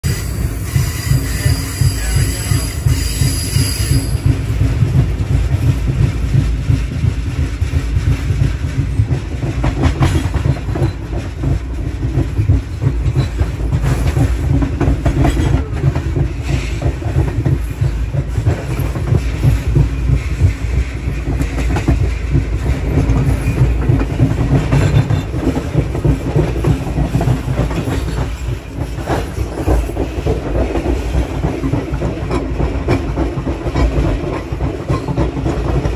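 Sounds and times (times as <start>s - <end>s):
train wheels clickety-clack: 0.0s - 35.9s.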